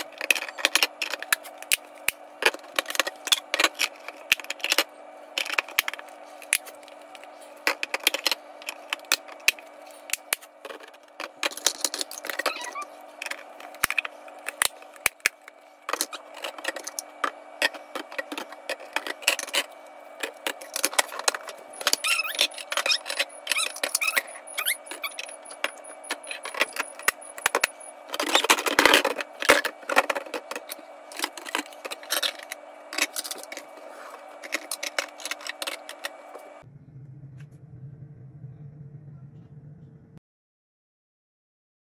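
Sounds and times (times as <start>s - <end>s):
plastic lids rattling and scraping: 0.0s - 9.6s, 10.3s - 36.4s
plastic containers clinking and clacking: 0.0s - 36.4s
steady low hum: 0.0s - 40.2s.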